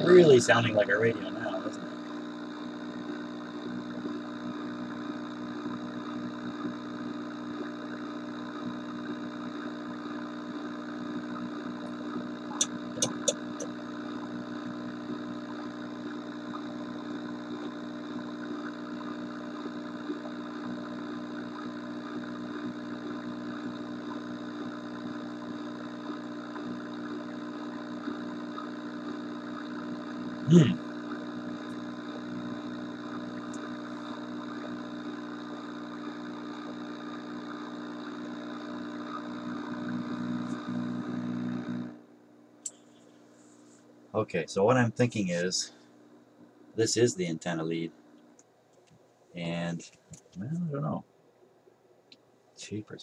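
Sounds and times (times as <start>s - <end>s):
car radio hum with static hiss: 0.0s - 48.4s, 49.2s - 51.1s, 52.6s - 53.0s.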